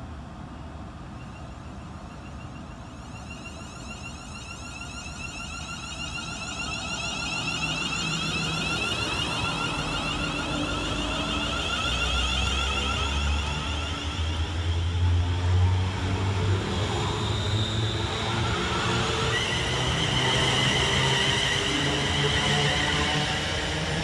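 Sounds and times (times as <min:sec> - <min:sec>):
electric train motors whining: 0:01.3 - 0:24.0.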